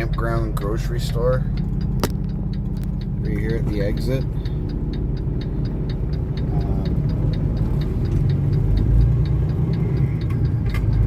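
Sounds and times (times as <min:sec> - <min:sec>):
diesel engine drone in cab: 0:00.0 - 0:11.0
light even ticking: 0:00.0 - 0:11.0.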